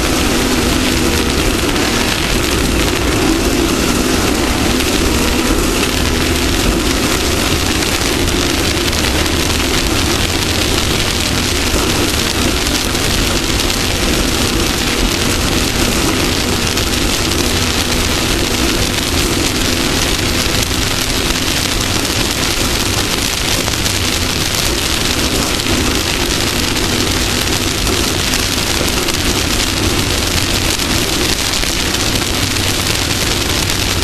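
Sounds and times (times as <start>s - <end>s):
engine drone: 0.0s - 34.0s
road and wind noise: 0.0s - 34.0s.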